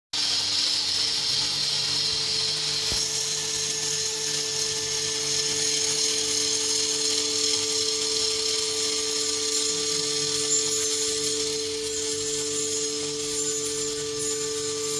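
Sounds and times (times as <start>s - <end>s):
high hissing whine: 0.2s - 14.9s
steady held drone tones: 0.2s - 14.9s.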